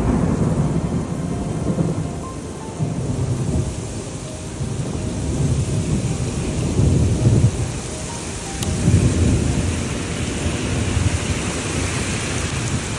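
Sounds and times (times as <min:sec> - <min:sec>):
heavy rain: 0:00.0 - 0:12.9
thunder rumbling: 0:00.0 - 0:12.9.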